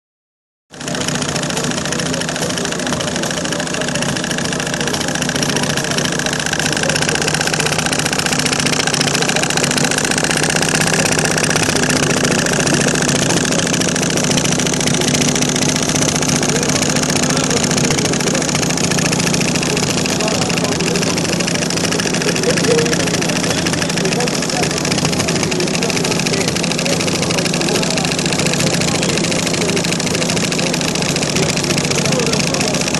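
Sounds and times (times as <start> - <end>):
small hot-air engines running: 0.7 - 32.9
model engine mechanical clatter: 0.8 - 32.9.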